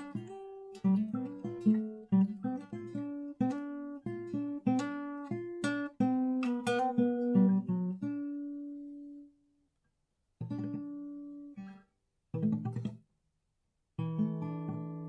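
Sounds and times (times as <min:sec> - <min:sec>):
guitar plucked and strummed: 0:00.0 - 0:09.5, 0:10.4 - 0:13.1, 0:14.0 - 0:15.0.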